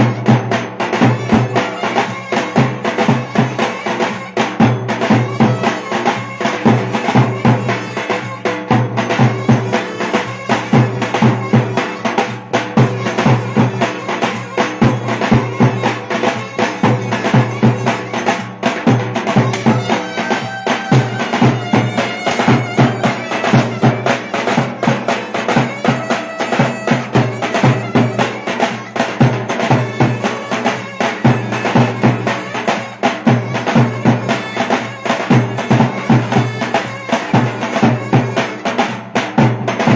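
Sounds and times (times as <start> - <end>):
fast steady drum beat: 0.0 - 39.9
wind instrument melody: 0.0 - 39.9.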